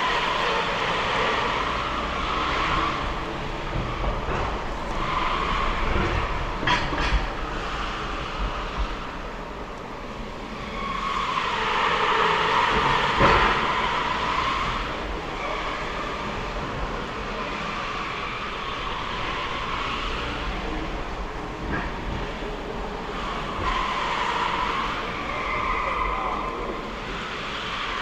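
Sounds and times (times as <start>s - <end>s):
tyre and road noise: 0.0s - 28.0s.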